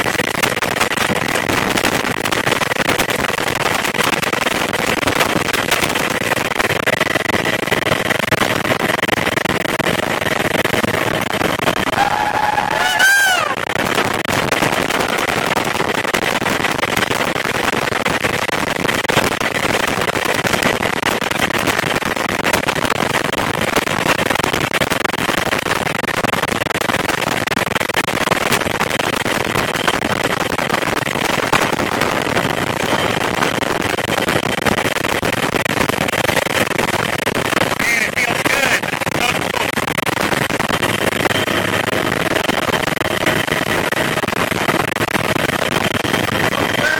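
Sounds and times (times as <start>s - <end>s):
faint high steady whine: 0.0s - 46.9s
helicopter rotor and engine roar: 0.0s - 46.9s
wind buffeting microphone: 0.0s - 46.9s.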